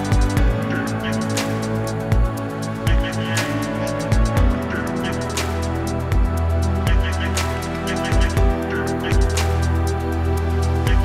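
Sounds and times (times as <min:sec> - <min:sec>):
deep beat: 0:00.0 - 0:11.0
electronic music: 0:00.0 - 0:11.0.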